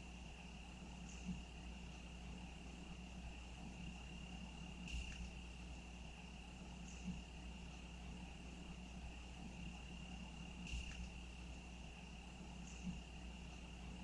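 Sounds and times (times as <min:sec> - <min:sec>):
cricket trilling: 0:00.0 - 0:14.0
faint low hum: 0:00.0 - 0:14.0.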